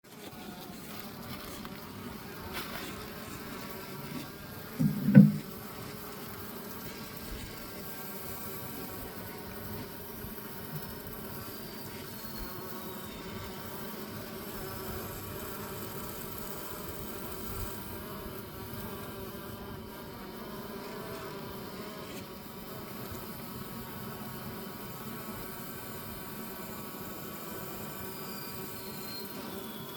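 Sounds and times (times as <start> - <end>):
honeybees buzzing: 0.1 - 29.9.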